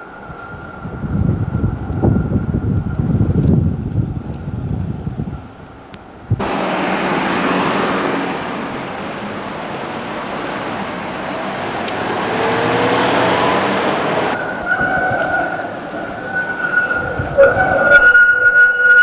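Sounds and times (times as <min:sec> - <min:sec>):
steady high whine: 0:00.0 - 0:18.1
road traffic: 0:00.0 - 0:19.0.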